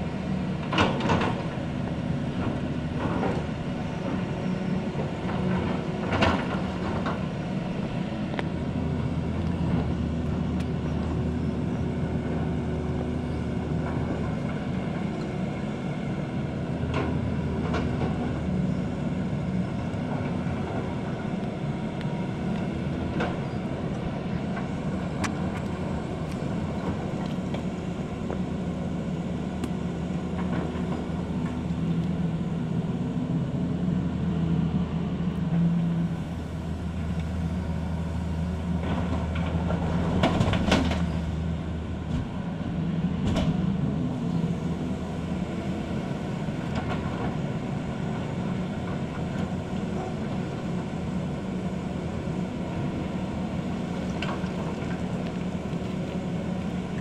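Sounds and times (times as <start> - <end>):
diesel engine hum: 0.0 - 57.0.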